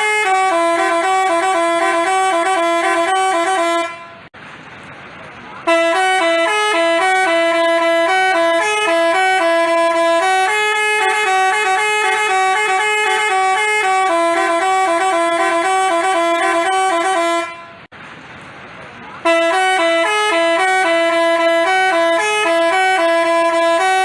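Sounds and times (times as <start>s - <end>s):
bus horn playing a melody: 0.0s - 4.3s, 5.6s - 17.9s, 19.2s - 24.0s.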